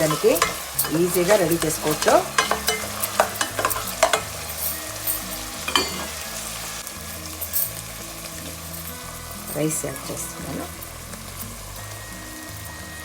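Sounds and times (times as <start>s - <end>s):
food sizzling in hot oil: 0.0s - 13.0s
spoon scraping a pan: 0.0s - 13.0s.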